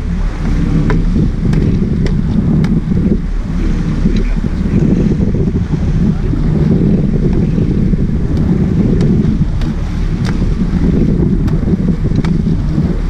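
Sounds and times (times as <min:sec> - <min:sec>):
water sloshing along hull: 0:00.0 - 0:13.0
wind buffeting microphone: 0:00.0 - 0:13.0.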